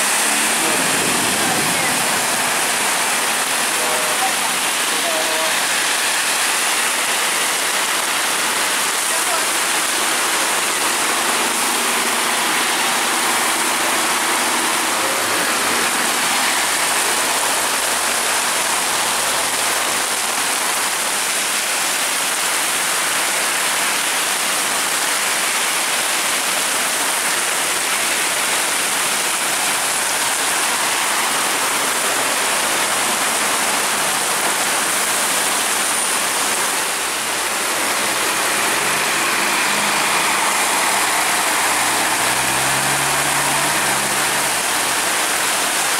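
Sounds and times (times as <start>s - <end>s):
buses driving through water: 0.0s - 45.9s
heavy rain on road: 0.0s - 45.9s.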